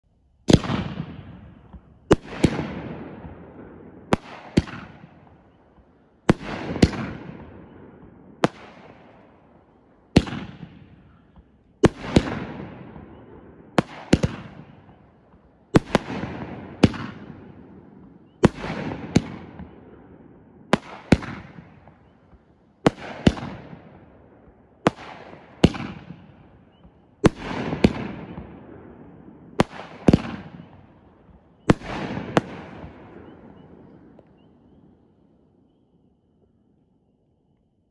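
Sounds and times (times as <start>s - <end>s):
firework bangs: 0.5s - 9.4s, 10.1s - 22.1s, 22.9s - 24.0s, 24.8s - 34.4s.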